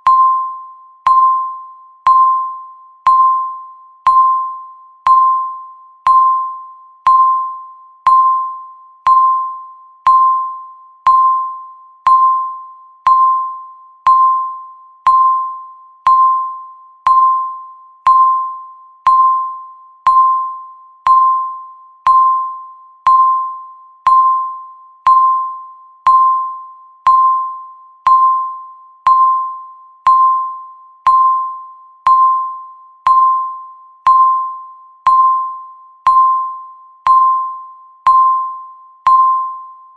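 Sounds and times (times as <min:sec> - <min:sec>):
timer ticking with bell-like tone: 0:00.0 - 0:39.9.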